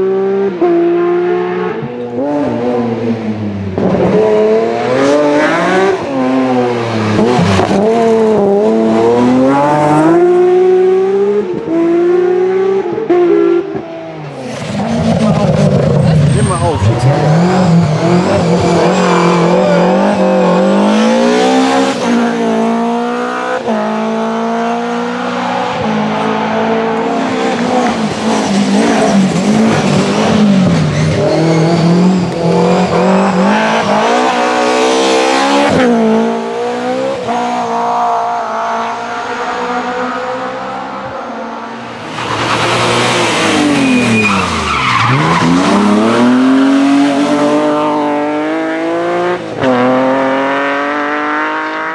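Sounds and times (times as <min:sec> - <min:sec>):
rally car engine revving: 0:00.0 - 0:51.9.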